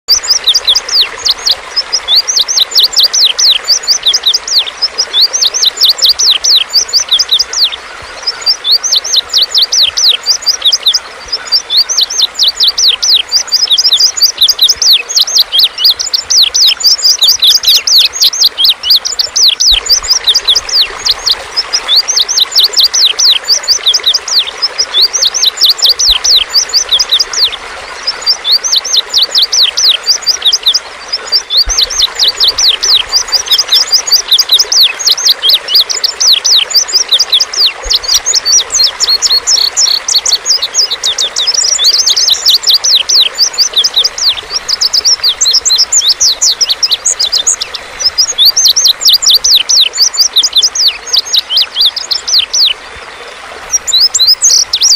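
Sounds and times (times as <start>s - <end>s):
bird song of high chirps: 0.0s - 52.8s, 53.6s - 54.9s.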